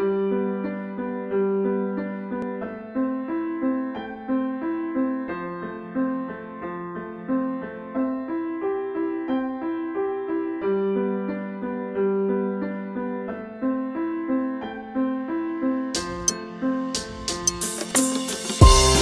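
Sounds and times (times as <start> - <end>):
keyboard piano melody: 0.0 - 19.0.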